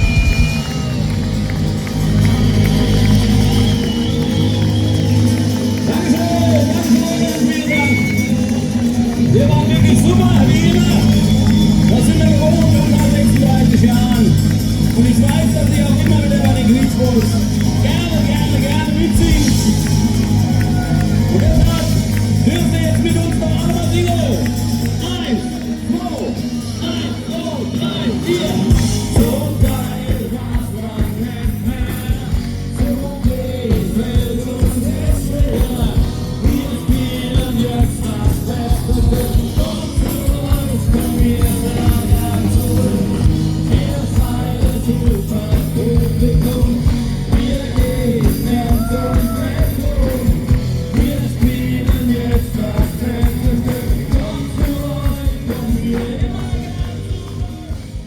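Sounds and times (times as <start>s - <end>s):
drum beat: 0.0s - 58.0s
rock band playing: 0.0s - 58.0s
person singing: 5.4s - 58.0s.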